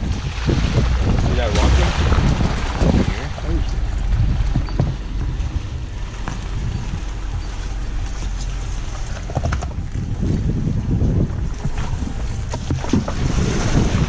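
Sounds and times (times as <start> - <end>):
engine and tyres rumbling on gravel: 0.0 - 14.0
wind buffeting microphone: 0.0 - 14.0.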